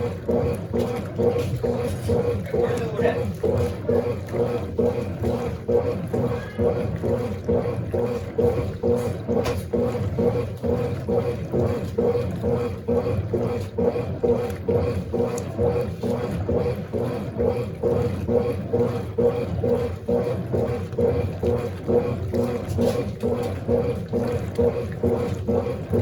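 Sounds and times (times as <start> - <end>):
washing machine motor humming: 0.0 - 26.0
water churning: 0.0 - 26.0.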